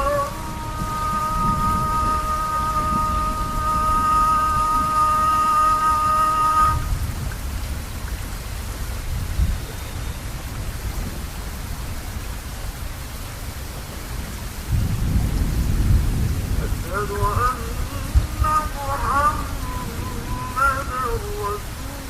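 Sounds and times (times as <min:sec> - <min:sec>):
thunder rumbling: 0:00.0 - 0:12.5, 0:14.0 - 0:22.0
rain hissing: 0:00.0 - 0:22.0.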